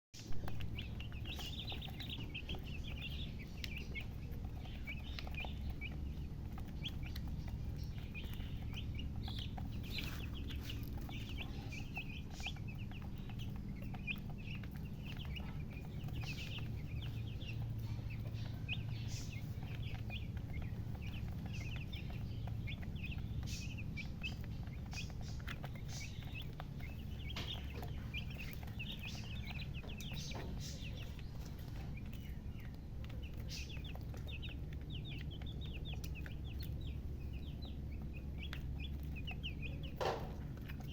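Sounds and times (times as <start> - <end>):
chickens chirping: 0.2 - 40.9
low steady hum: 0.2 - 40.9.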